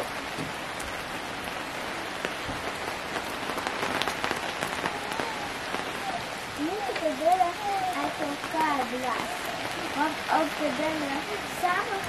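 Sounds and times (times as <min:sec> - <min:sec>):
steady rain with drop ticks: 0:00.0 - 0:12.0.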